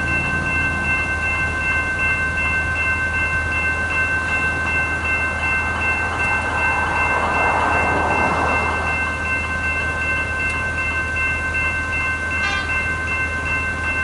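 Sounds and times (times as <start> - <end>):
level crossing warning bells: 0.0 - 14.0
train passing: 0.0 - 14.0.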